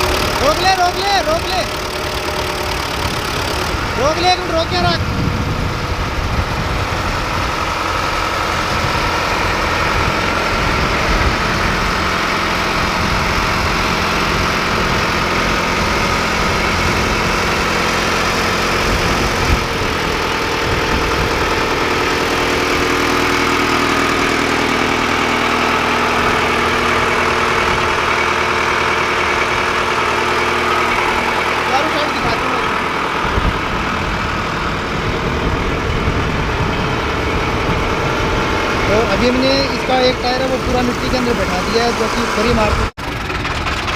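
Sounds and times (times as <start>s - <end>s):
tractor diesel engine rumbling: 0.0s - 43.9s.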